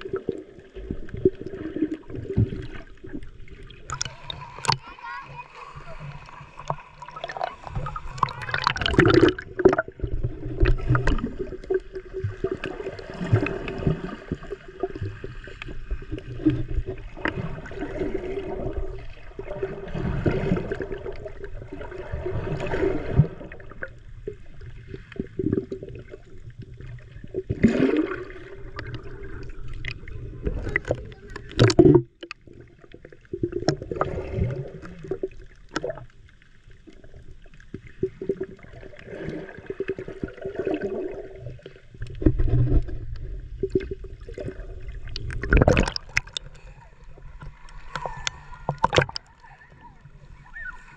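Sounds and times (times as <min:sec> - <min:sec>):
muffled underwater sloshing: 0:00.0 - 0:50.9.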